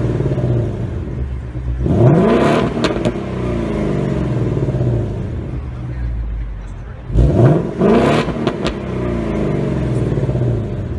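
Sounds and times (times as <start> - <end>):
car engine idling and revving: 0.0 - 10.9.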